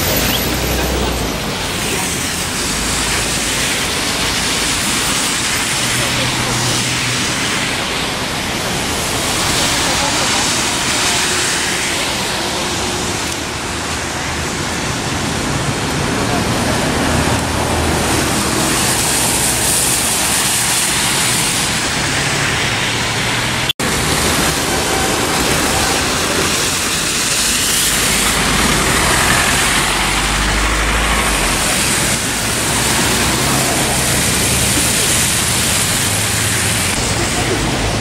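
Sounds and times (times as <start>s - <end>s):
trolleybus passing: 0.0s - 38.0s
tyres hissing on wet road: 0.0s - 38.0s.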